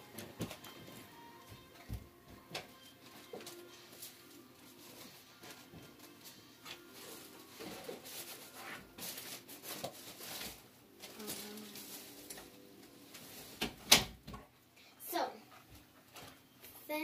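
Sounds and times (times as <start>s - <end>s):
rustling and handling noises: 0.0s - 17.0s.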